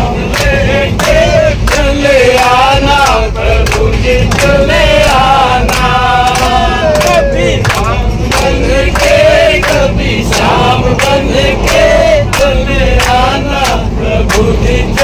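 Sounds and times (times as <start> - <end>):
men singing a chant: 0.0 - 15.0
hands clapping: 0.3 - 15.0.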